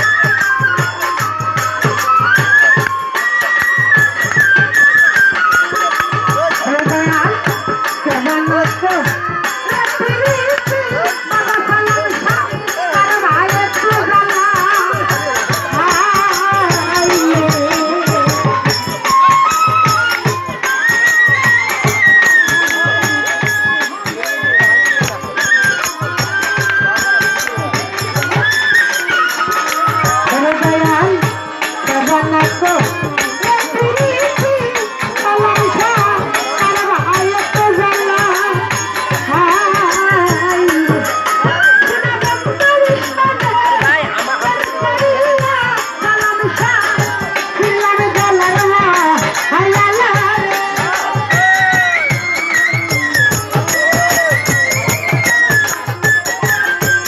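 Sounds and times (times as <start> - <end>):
folk band playing a melody: 0.0 - 57.0
jingling rattle percussion: 0.0 - 57.0
steady drum beat: 0.0 - 57.0.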